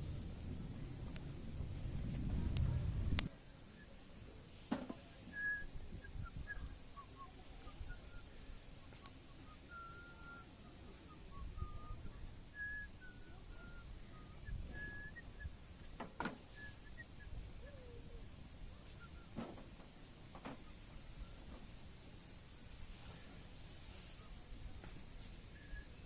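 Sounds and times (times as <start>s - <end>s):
wood fire crackles: 0.0s - 17.6s, 18.2s - 26.0s.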